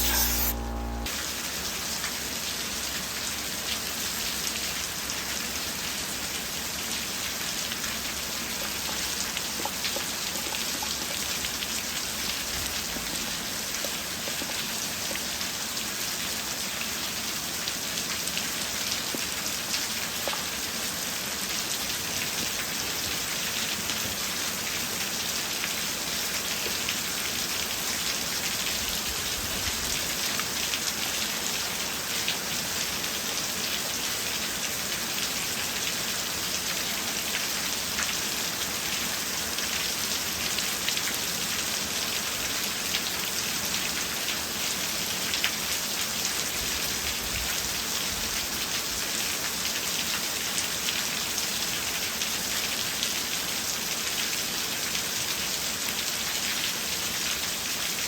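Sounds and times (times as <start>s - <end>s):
steady rain falling: 1.1s - 58.0s.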